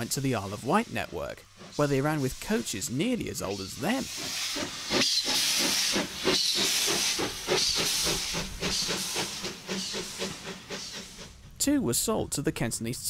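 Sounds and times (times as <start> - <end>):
steam hissing: 0.0 - 11.4
locomotive exhaust beats: 0.0 - 11.7.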